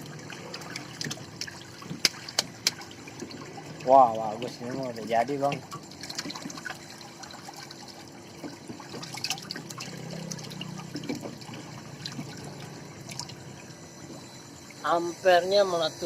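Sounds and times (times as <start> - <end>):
water trickling and sloshing: 0.0 - 15.8
ice machine hum: 0.0 - 16.0.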